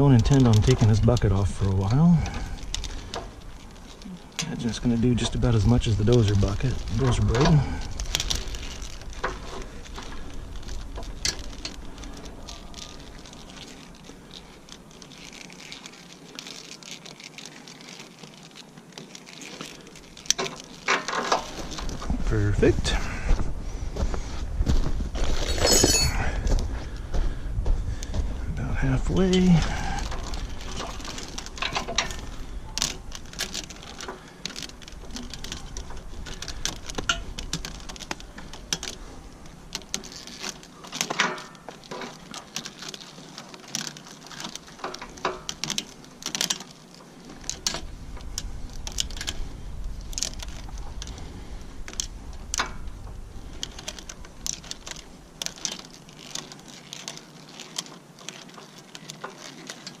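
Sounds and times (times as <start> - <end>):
plastic spiral wrap clicking and rustling: 0.0 - 22.7, 28.8 - 60.0.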